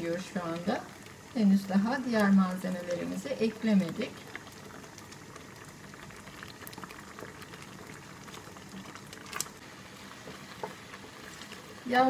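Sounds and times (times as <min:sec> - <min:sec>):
sauce bubbling and popping: 0:00.0 - 0:12.0
wooden spoon stirring: 0:00.0 - 0:12.0.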